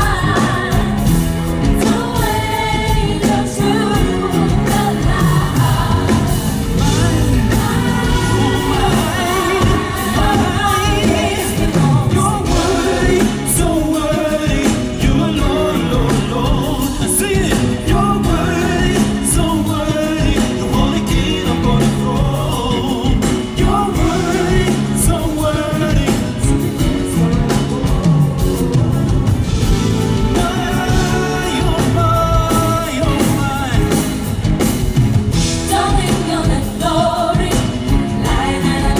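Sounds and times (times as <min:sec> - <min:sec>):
drums: 0:00.0 - 0:38.9
person singing: 0:01.8 - 0:34.1.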